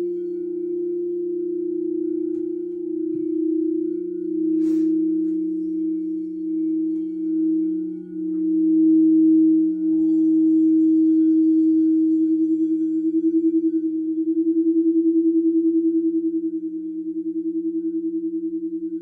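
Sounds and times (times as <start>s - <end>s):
crystal singing bowls ringing: 0.0s - 19.0s.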